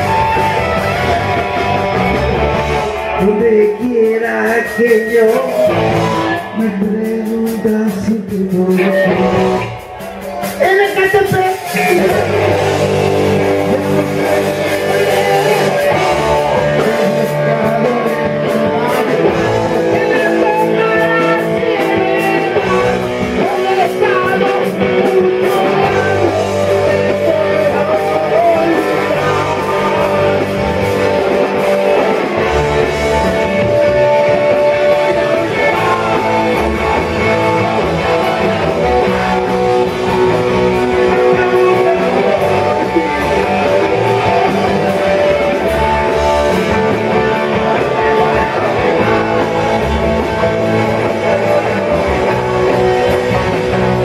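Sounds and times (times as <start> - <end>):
electric guitar: 0.0 - 54.0
person singing: 2.6 - 54.0.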